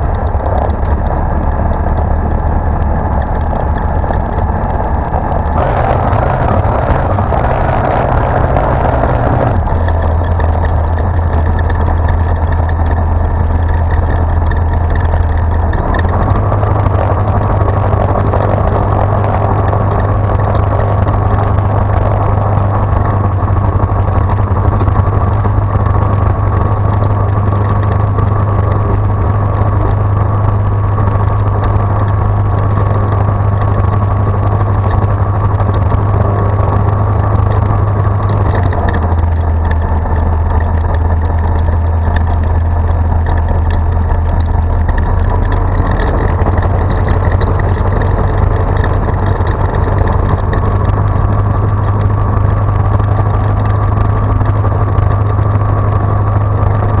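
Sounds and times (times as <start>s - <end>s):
propeller aircraft engine droning: 0.0s - 57.0s.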